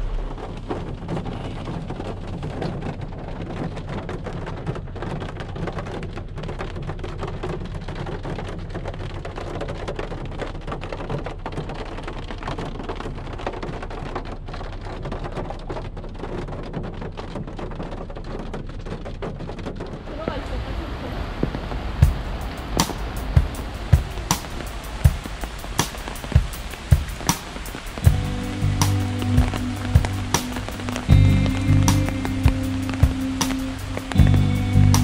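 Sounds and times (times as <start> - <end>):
heavy rain drumming on car roof: 0.0 - 35.0
sharp raindrop hits: 0.0 - 35.0.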